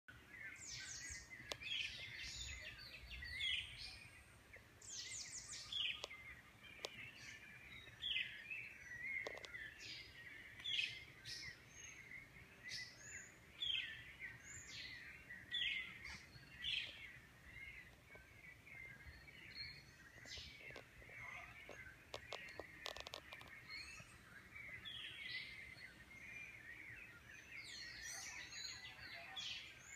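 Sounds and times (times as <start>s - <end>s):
birds singing and calling: 0.1s - 29.9s.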